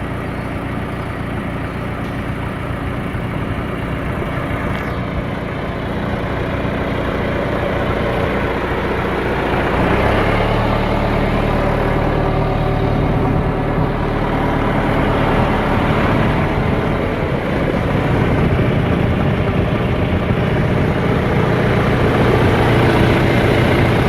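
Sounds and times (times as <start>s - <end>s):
backhoe engine running: 0.0s - 24.0s.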